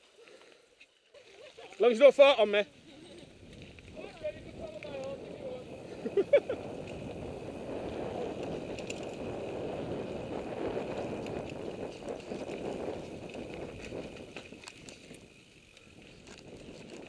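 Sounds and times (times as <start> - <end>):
wind and tyre noise: 1.9 - 17.0
bike clicks and rattles: 3.0 - 17.0.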